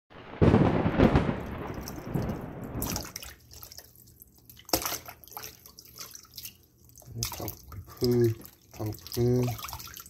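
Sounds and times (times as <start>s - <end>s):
water dripping: 1.4s - 10.0s
water splashing in basin: 1.6s - 10.0s.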